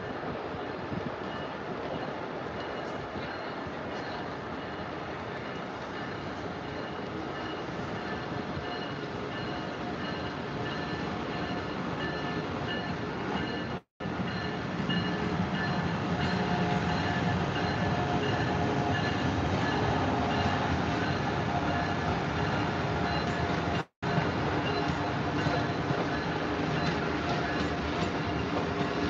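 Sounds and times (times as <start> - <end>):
train rail rumble and wheel noise: 0.0 - 29.0.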